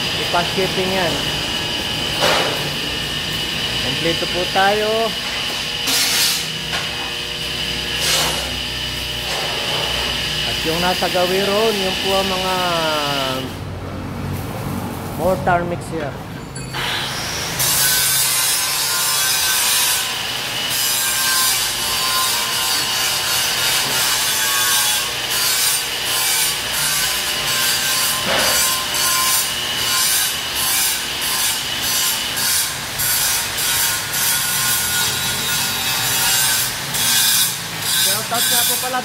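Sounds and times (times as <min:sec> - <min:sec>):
angle grinder on steel: 0:00.0 - 0:13.6, 0:16.6 - 0:39.0.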